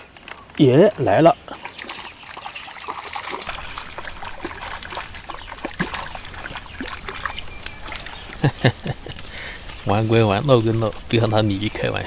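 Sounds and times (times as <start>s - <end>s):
crickets chirring: 0.0s - 12.0s
fish splashing at water surface: 1.6s - 11.2s.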